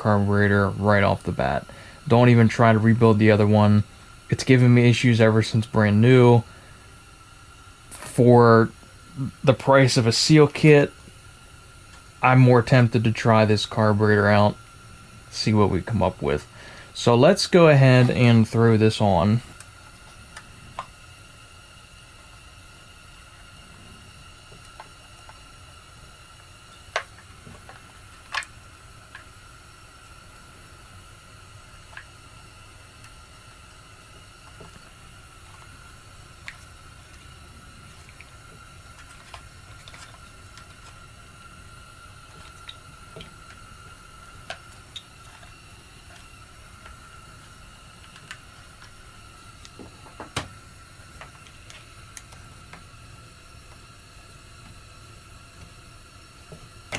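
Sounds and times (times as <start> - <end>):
faint high whine: 0.0 - 56.9
steady hiss: 0.0 - 56.9.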